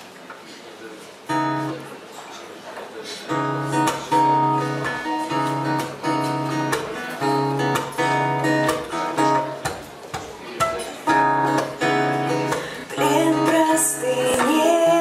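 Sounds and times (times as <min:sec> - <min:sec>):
guitar strumming chords: 0:01.3 - 0:01.9, 0:03.3 - 0:15.0.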